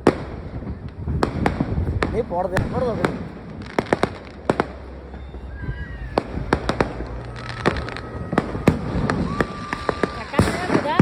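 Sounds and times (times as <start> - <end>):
firework whistling: 0.0 - 11.0
fireworks cracking and banging: 0.0 - 11.0.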